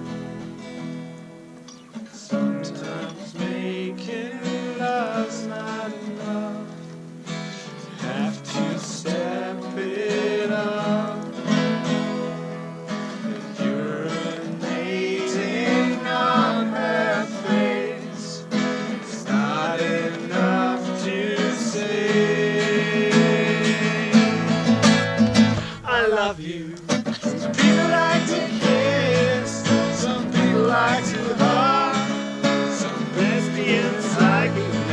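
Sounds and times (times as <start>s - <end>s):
acoustic guitar strumming: 0.0s - 34.9s
person singing: 2.0s - 6.8s, 7.6s - 24.8s, 25.6s - 34.9s.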